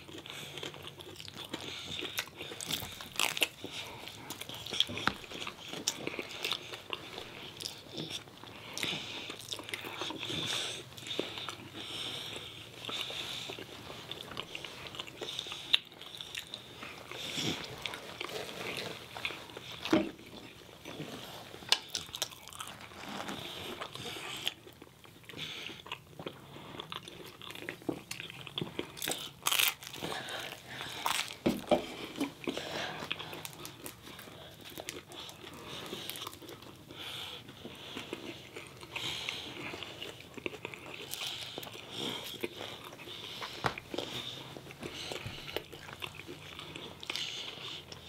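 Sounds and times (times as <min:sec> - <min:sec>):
biting and chewing: 0:00.0 - 0:48.0.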